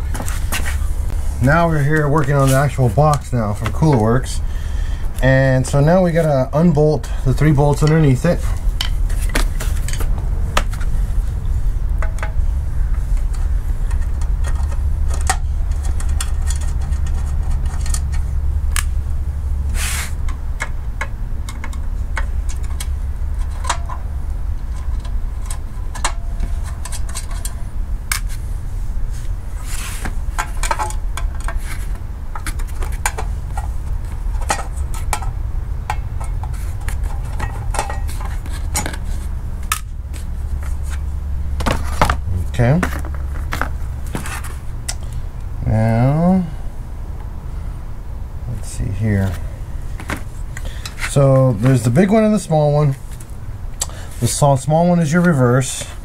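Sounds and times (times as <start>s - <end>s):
low rumble: 0.0s - 52.0s.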